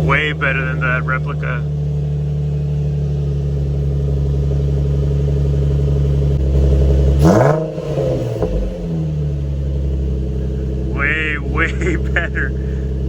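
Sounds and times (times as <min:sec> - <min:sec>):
car engine idling: 0:00.0 - 0:13.0
exhaust crack: 0:00.0 - 0:13.0.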